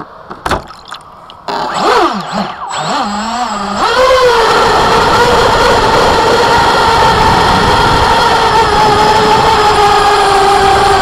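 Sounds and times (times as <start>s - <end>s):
boat motor whine: 1.2s - 11.0s.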